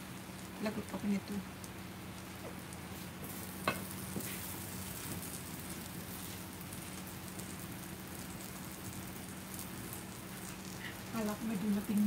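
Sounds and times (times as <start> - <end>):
egg sizzling in a pan: 0.0 - 12.0.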